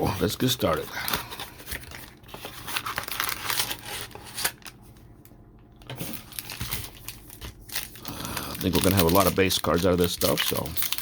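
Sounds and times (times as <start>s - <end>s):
packaging tearing and crinkling: 0.9s - 4.8s, 5.8s - 11.0s.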